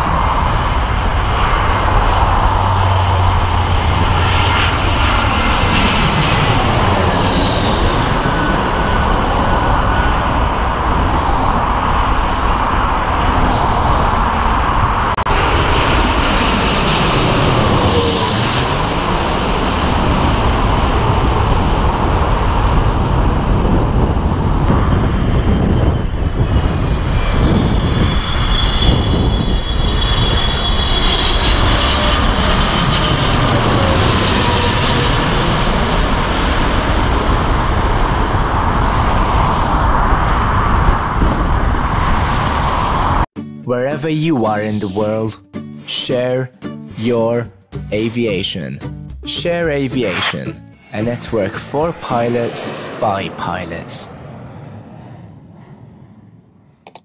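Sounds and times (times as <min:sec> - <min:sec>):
jet airliners passing overhead: 0:00.0 - 0:43.3, 0:49.5 - 0:57.0.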